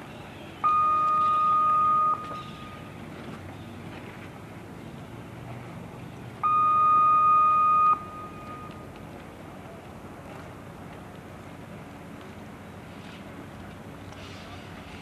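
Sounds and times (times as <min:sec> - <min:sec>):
faint open-air background noise: 0:00.0 - 0:15.0.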